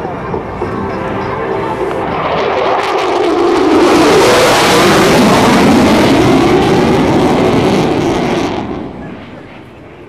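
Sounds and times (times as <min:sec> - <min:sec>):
jet roaring past: 0:00.0 - 0:10.0.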